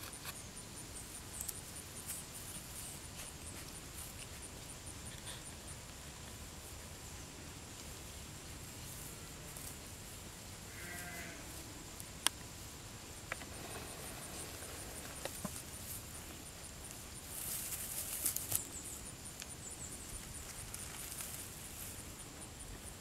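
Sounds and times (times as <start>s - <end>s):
steady low background noise: 0.0s - 23.0s.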